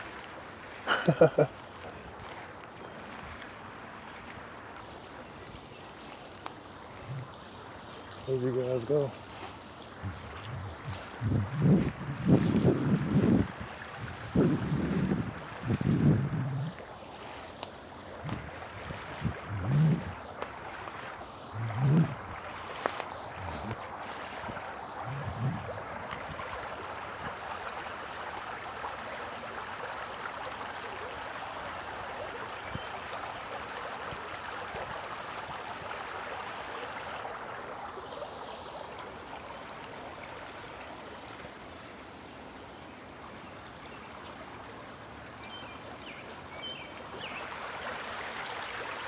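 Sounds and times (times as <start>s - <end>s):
creek water rushing: 0.0s - 49.0s.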